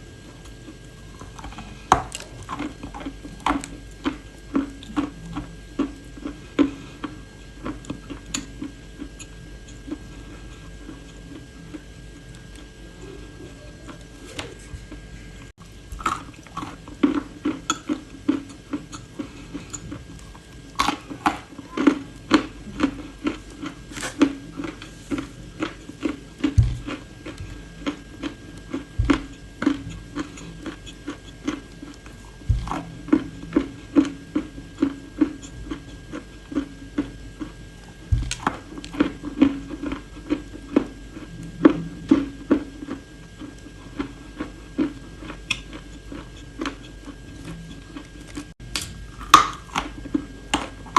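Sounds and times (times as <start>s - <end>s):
crunching and chewing clay: 0.0s - 50.9s.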